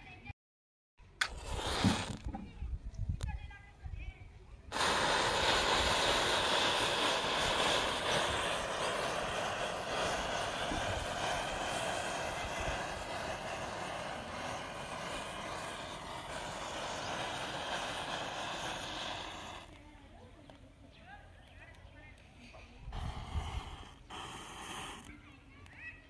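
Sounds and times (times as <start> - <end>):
matches fizzing alight: 1.2 - 2.6, 4.7 - 20.7, 21.7 - 25.9.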